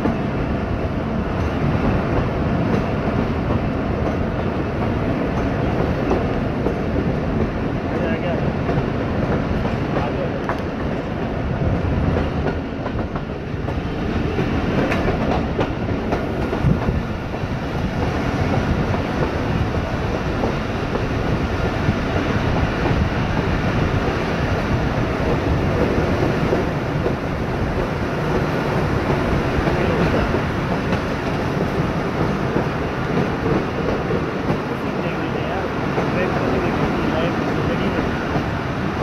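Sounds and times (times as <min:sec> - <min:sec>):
train carriage rumbling on rails: 0:00.0 - 0:39.0.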